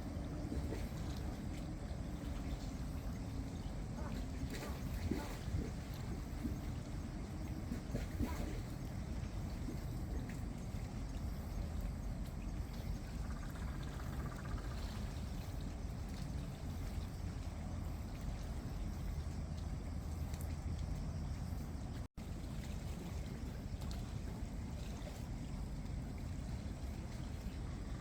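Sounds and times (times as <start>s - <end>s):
sea water: 0.0s - 28.0s.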